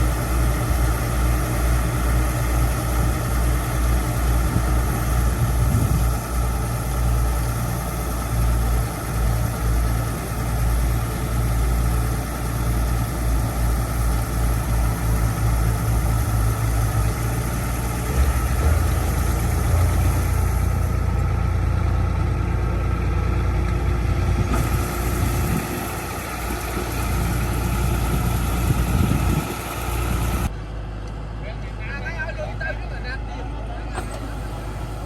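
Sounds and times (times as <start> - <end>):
diesel engine droning: 0.0 - 35.0.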